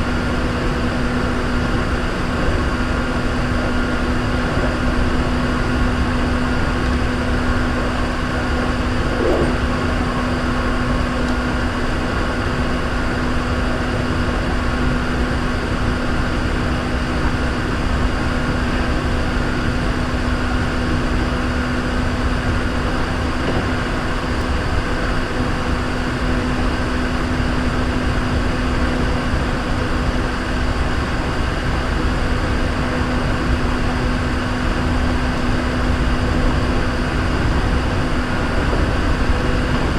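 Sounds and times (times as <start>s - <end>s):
steady train hum: 0.0s - 39.9s
train wheels rumbling on rail: 0.0s - 39.9s.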